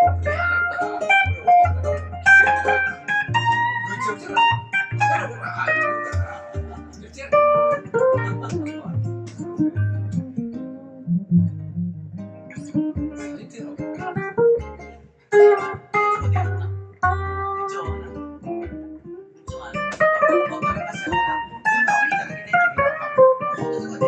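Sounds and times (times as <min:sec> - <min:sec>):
acoustic-electric guitar: 0:00.0 - 0:24.0
electric guitar: 0:00.0 - 0:24.0.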